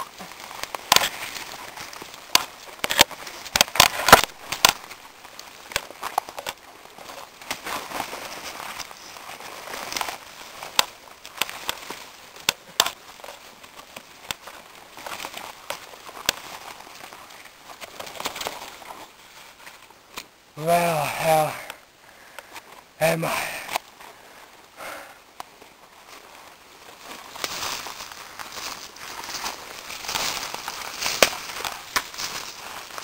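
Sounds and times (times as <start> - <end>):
leaves and twigs snapping underfoot: 0.0 - 20.3, 23.6 - 33.0.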